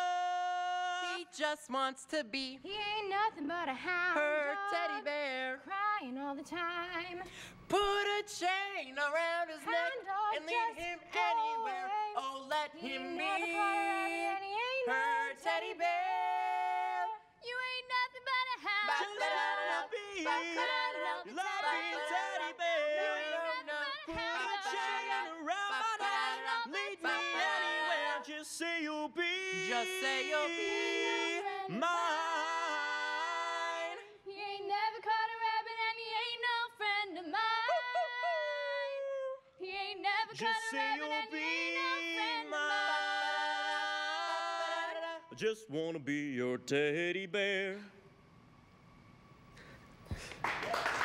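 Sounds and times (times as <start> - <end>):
a cappella group singing in harmony: 0.0 - 48.0.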